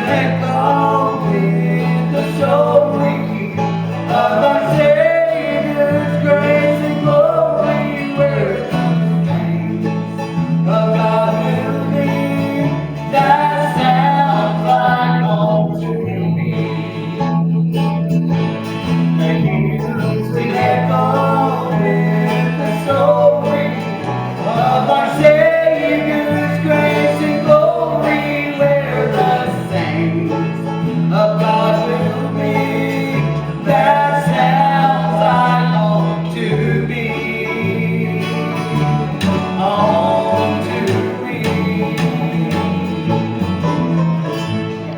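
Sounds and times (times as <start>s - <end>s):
person singing: 0.0s - 44.2s
banjo: 0.0s - 44.9s
bluegrass band playing: 0.0s - 44.9s
walking bass line: 0.0s - 44.9s.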